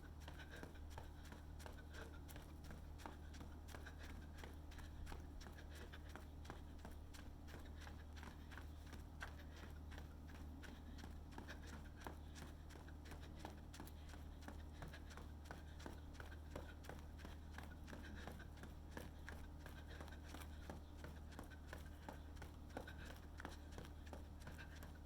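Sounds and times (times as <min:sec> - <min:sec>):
runner footsteps: 0:00.0 - 0:25.0
steady low hum: 0:00.0 - 0:25.0.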